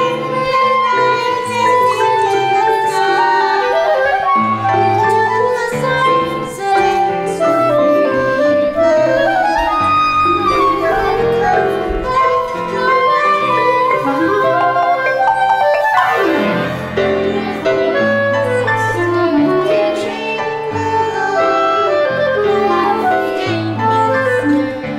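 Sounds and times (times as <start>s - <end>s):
chamber music with clarinet: 0.0s - 24.9s.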